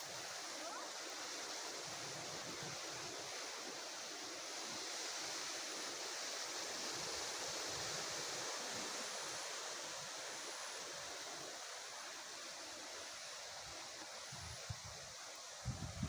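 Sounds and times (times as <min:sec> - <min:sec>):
wind rushing through trees: 0:00.0 - 0:16.0.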